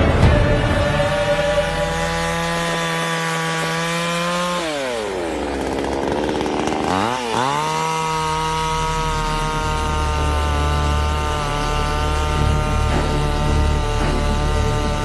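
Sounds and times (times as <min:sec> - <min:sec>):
chainsaw running at high revs: 0:00.0 - 0:15.0.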